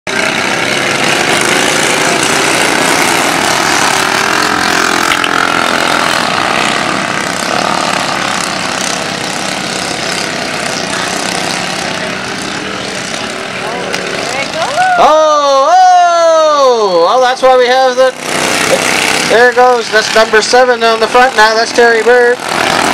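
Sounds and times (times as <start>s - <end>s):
lawn mower engines at full throttle: 0.1s - 22.9s.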